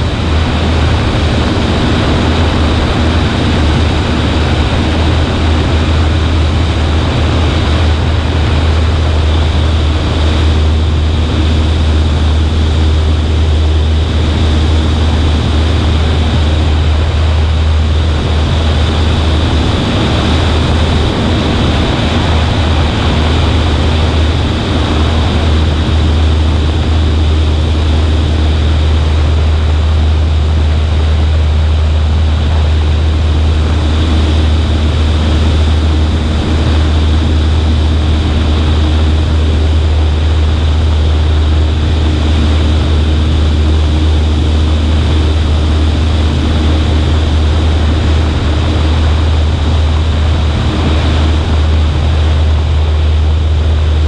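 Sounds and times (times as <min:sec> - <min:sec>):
propeller plane engine droning: 0:00.0 - 0:54.0
wind rushing over microphone: 0:00.0 - 0:54.0.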